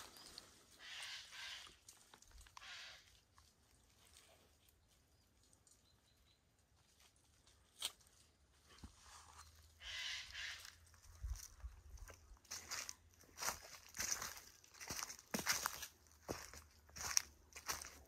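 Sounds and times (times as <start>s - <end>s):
footsteps in dry leaves: 0.0s - 4.6s, 7.0s - 18.0s.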